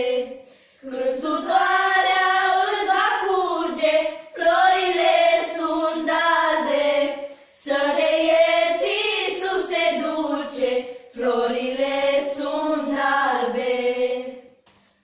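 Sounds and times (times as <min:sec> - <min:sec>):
girls singing unaccompanied: 0:00.0 - 0:14.6.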